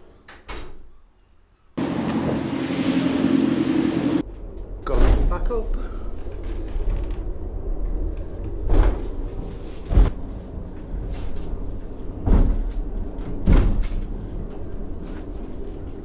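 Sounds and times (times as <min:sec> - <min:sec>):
tram car rumbling: 0:01.8 - 0:16.0.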